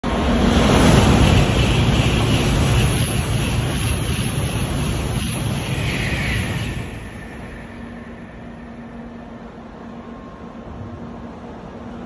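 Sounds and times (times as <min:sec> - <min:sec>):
high-speed train rushing past: 0:00.0 - 0:12.0.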